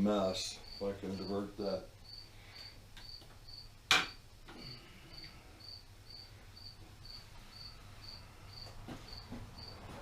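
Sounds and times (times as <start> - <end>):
cricket chirping: 0.2 - 9.8.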